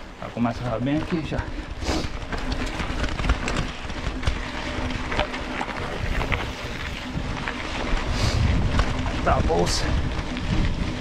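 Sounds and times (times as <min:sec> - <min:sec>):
bike rattling and knocking: 0:00.0 - 0:11.0
bike tyre noise: 0:00.0 - 0:11.0
wind on microphone: 0:01.4 - 0:11.0.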